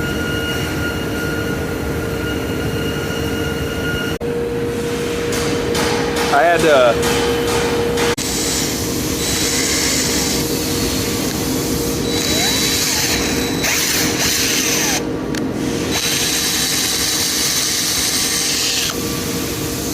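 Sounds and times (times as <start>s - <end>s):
machine humming: 0.0s - 19.9s.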